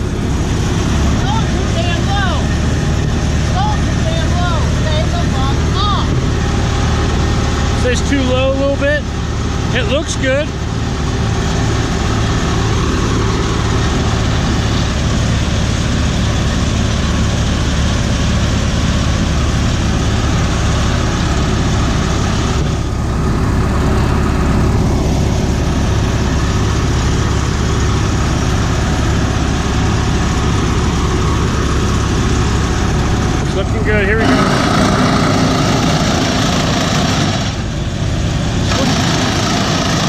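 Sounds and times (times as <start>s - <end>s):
combine harvester drone: 0.0s - 40.0s.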